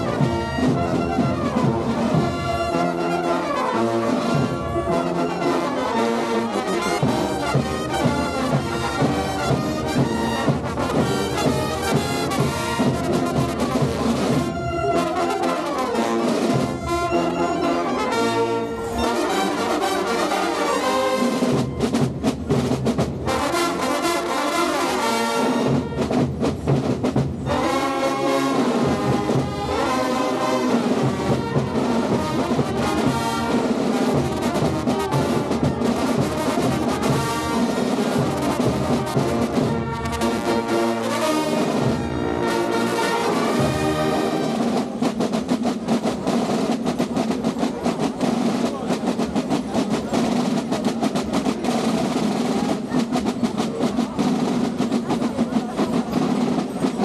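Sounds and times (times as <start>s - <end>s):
brass band playing: 0.0s - 57.0s
drums beating steady rhythm: 0.0s - 57.0s.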